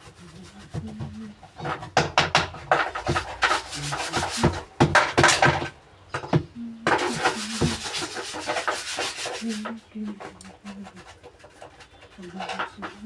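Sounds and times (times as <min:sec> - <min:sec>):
scrubbing washing machine: 0:00.0 - 0:13.0.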